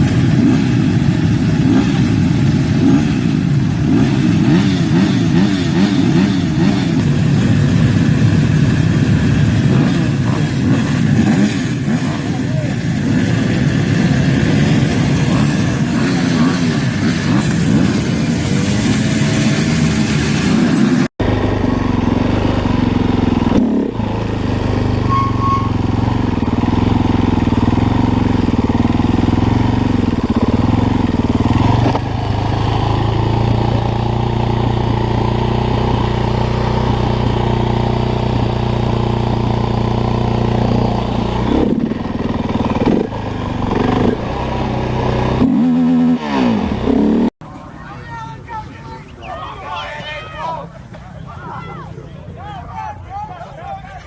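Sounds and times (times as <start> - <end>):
dirt bike engines revving: 0.0 - 47.4.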